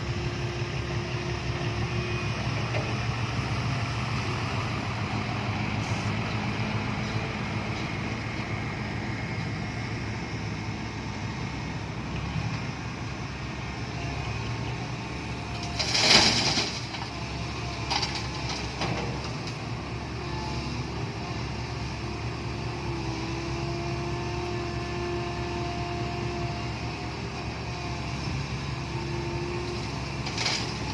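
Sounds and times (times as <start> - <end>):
diesel engines running: 0.0 - 30.9.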